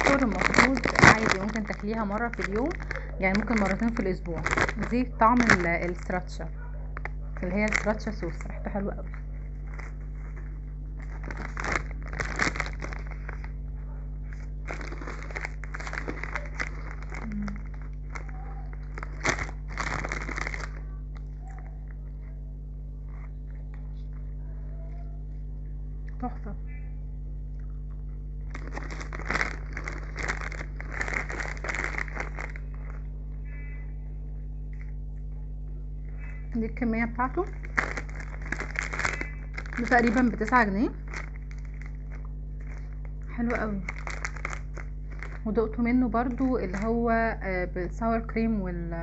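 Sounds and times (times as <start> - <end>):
foil bag crinkling: 0.0 - 22.3, 23.1 - 24.0, 28.4 - 33.8, 36.2 - 47.4
steady low hum: 0.0 - 49.0.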